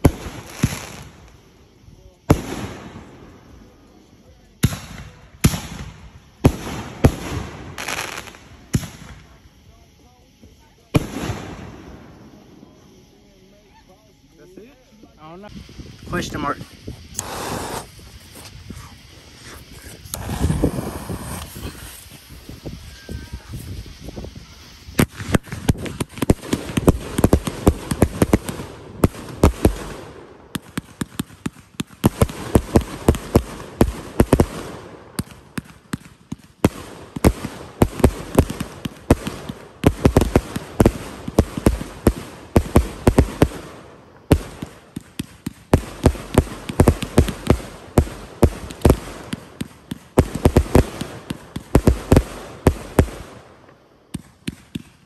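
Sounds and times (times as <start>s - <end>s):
fireworks launching and bursting: 0.0s - 13.2s, 15.2s - 55.0s.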